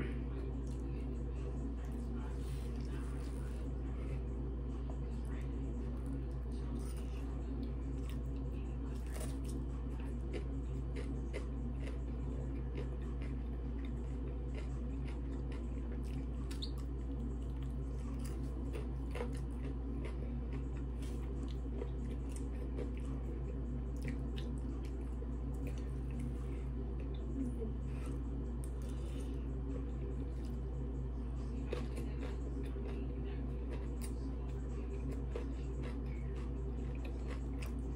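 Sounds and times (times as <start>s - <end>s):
steady low hum: 0.0s - 37.9s
chewing: 0.4s - 30.7s, 31.4s - 37.9s.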